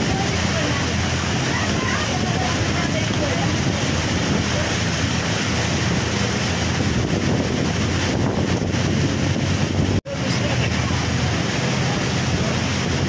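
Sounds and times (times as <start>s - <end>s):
floodwater rushing and churning: 0.0s - 13.0s
wind buffeting microphone: 0.0s - 13.0s.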